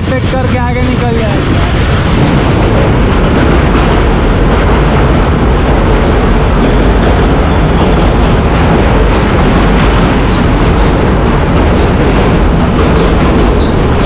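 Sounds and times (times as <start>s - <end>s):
trains running: 0.0s - 14.0s
wind rushing over microphone: 0.0s - 14.0s.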